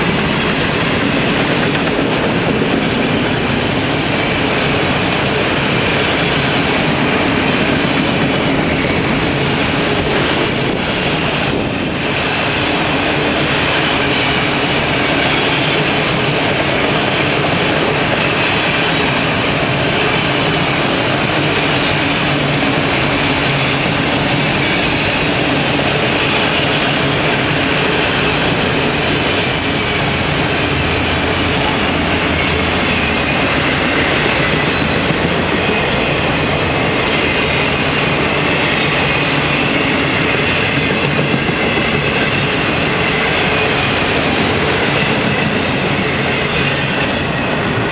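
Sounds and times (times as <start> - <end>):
steel wheels running on rails: 0.0 - 47.9.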